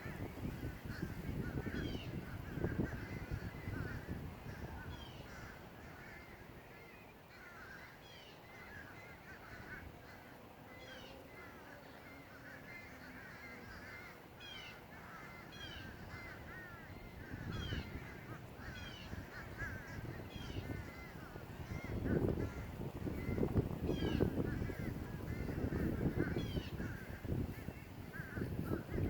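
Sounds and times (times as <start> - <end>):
crow-like caws: 0.0 - 29.0
flock of birds chirping: 0.0 - 29.0.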